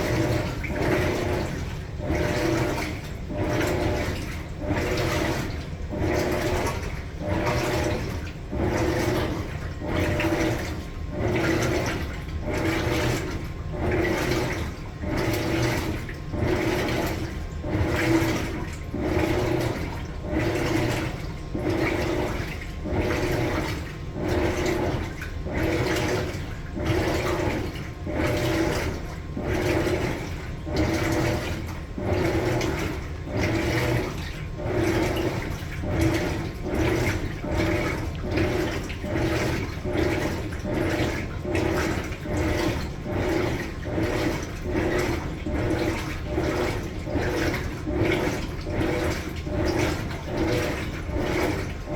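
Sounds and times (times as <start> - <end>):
washing machine water sloshing: 0.0 - 51.9.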